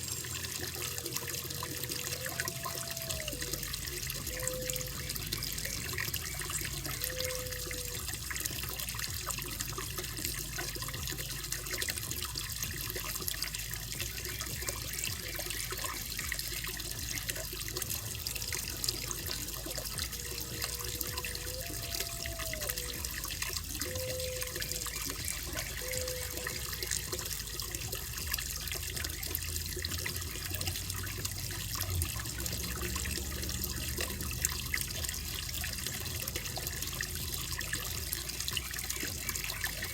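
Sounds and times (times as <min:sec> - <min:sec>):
water trickling into pond: 0:00.0 - 0:39.9.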